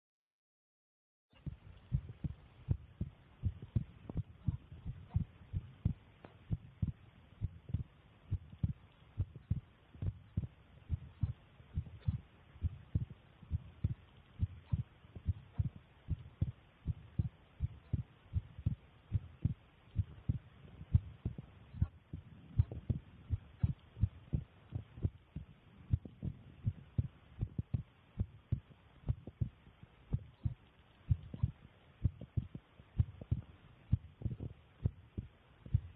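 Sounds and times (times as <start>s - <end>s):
faint hiss: 1.3s - 35.9s
heart beating: 1.3s - 35.9s.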